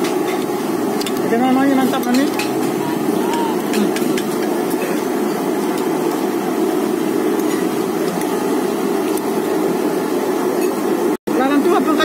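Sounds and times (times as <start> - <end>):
loud mechanical drone: 0.0 - 10.4.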